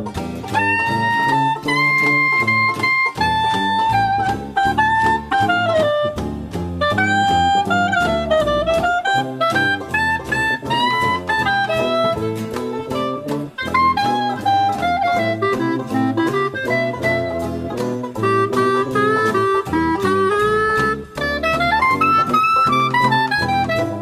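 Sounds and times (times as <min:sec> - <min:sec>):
bass line: 0:00.0 - 0:24.0
saxophone melody: 0:00.0 - 0:24.0
drum beat: 0:00.1 - 0:24.0.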